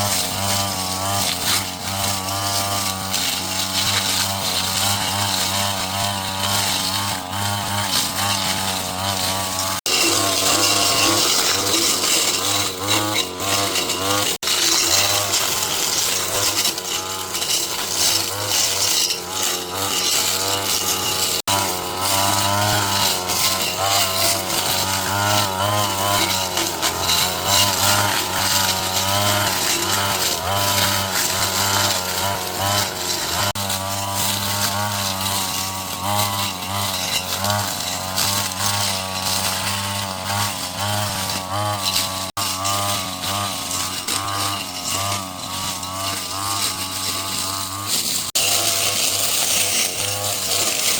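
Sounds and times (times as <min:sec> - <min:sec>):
two-stroke power tool engine: 0:00.0 - 0:50.9.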